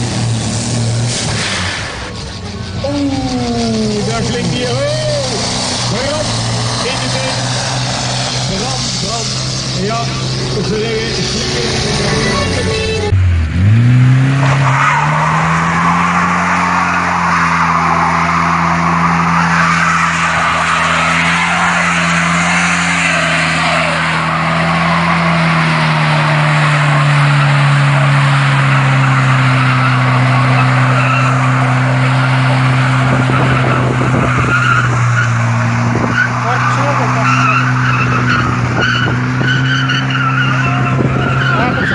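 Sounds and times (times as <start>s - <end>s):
car engine revving: 0.0s - 41.9s
tyres squealing and skidding: 0.0s - 41.9s.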